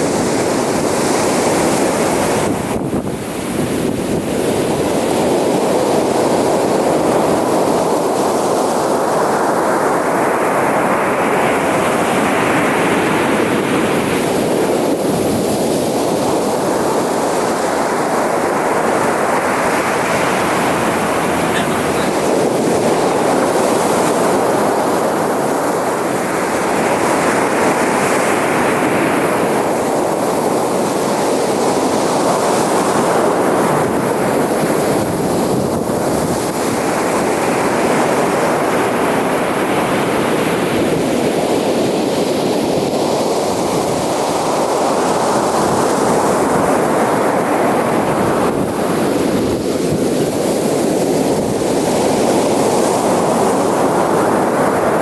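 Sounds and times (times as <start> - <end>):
ocean surf washing onto beach: 0.0 - 55.0.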